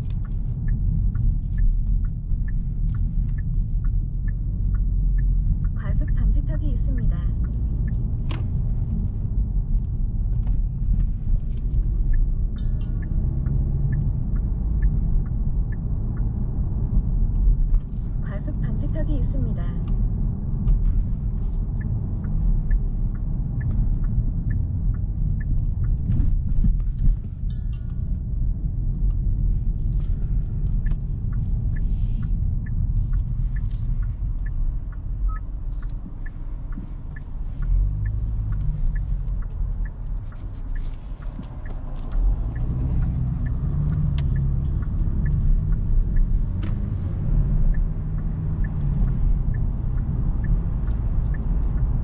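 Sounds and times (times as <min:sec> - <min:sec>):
car engine and tyre rumble: 0:00.0 - 0:52.0
light ticking: 0:00.0 - 0:52.0.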